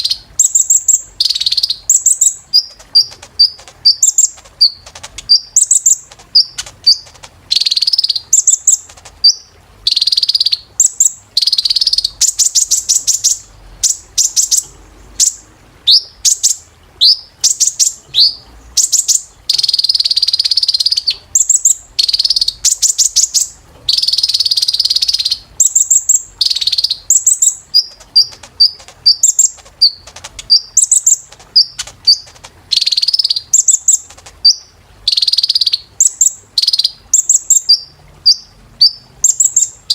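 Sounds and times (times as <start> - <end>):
bird chirping: 0.0 - 39.9
bird trills: 0.0 - 39.9.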